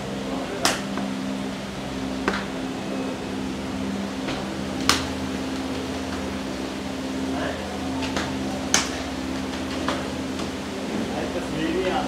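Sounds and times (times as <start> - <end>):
electric fan humming: 0.0 - 12.0.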